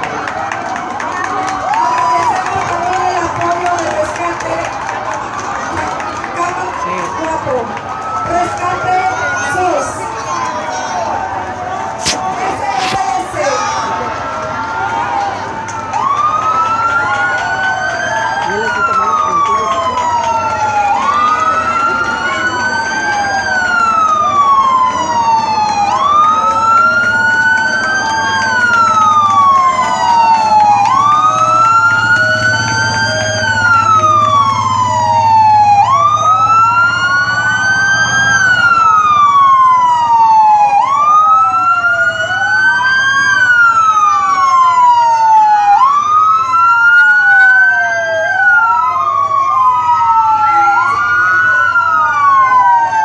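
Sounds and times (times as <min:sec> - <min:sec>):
emergency sirens wailing: 0:00.0 - 0:53.0.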